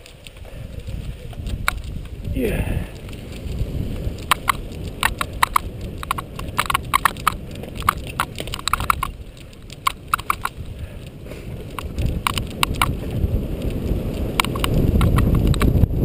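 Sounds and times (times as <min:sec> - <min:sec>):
tyres rolling: 0:00.0 - 0:15.7
bike clattering and rattling: 0:00.0 - 0:16.0
wind: 0:00.0 - 0:16.0.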